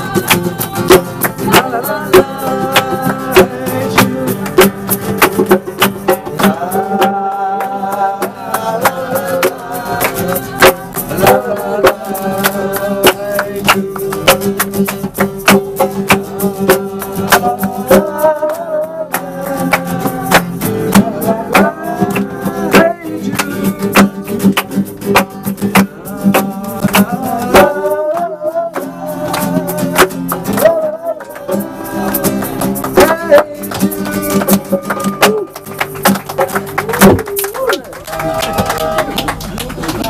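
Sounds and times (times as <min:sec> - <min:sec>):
group singing: 0:00.0 - 0:36.3
hand drum: 0:00.0 - 0:37.7
hand clapping: 0:00.0 - 0:40.0
strummed acoustic guitar: 0:00.0 - 0:40.0.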